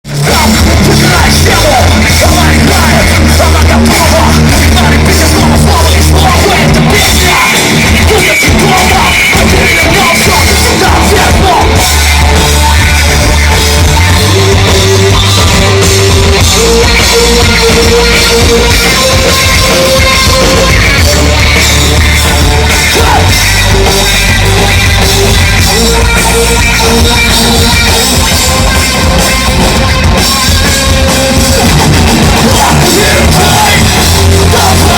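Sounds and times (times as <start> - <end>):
heavy bass: 0.0 - 34.9
live rock band playing: 0.0 - 34.9
sung or shouted vocals: 0.1 - 28.6, 31.1 - 34.9
drum kit: 0.1 - 34.9.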